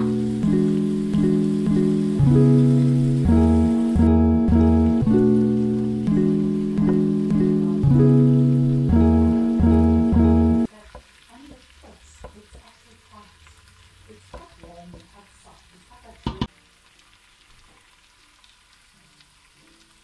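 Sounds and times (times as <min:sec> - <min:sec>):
light sizzle: 0:00.0 - 0:20.0.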